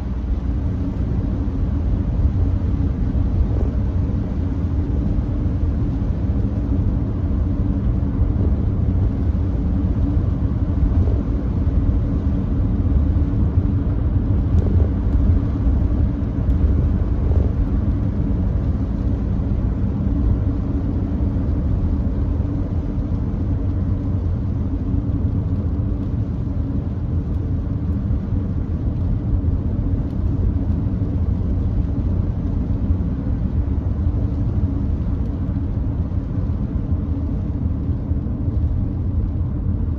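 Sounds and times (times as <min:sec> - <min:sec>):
car road noise low rumble: 0:00.0 - 0:39.9.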